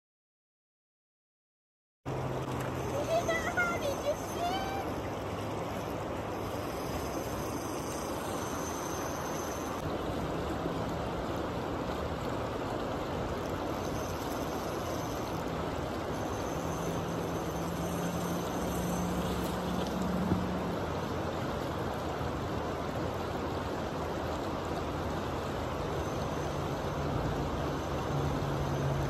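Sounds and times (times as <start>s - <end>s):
river water rushing over rocks: 2.1s - 29.0s.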